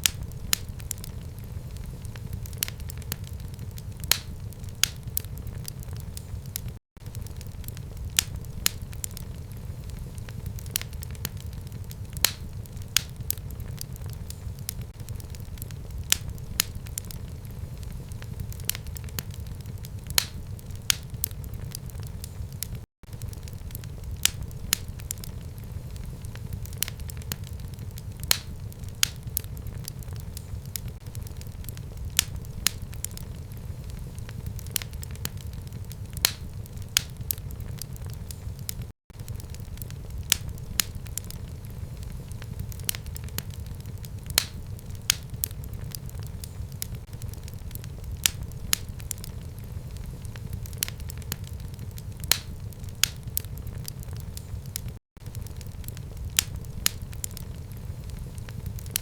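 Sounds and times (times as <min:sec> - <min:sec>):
fire crackles and pops: 0:00.0 - 0:59.0
fire rumbling in a fireplace: 0:00.0 - 0:59.0.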